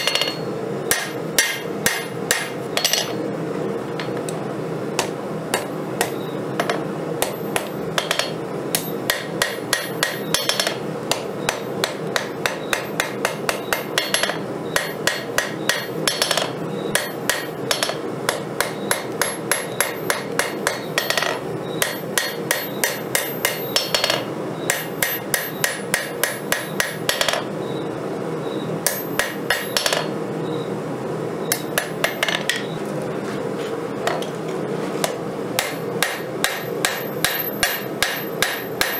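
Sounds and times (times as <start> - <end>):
hammer striking steel on anvil: 0.0 - 3.2, 5.0 - 27.5, 28.8 - 30.1, 31.5 - 32.7, 35.0 - 38.9.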